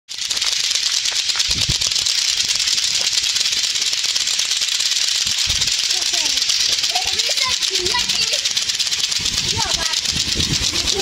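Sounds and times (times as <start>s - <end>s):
plastic clackers clacking: 0.1s - 11.0s.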